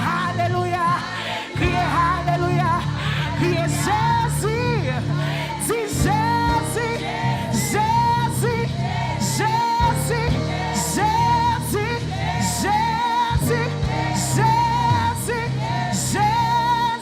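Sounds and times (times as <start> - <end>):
singing over a band: 0.0 - 17.0.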